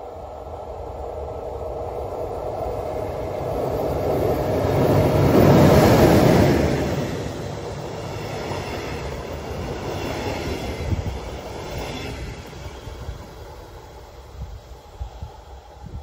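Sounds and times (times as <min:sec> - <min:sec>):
electric locomotive passing: 0:00.0 - 0:16.0
train coaches rolling past: 0:00.0 - 0:16.0.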